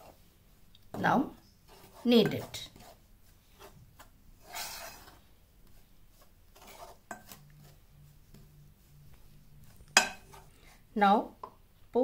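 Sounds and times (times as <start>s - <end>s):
hand scraping dough in a bowl: 0.0s - 11.1s.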